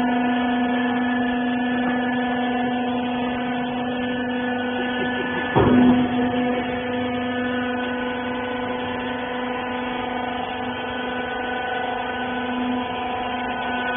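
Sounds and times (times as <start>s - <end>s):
baler machine humming: 0.0s - 13.9s.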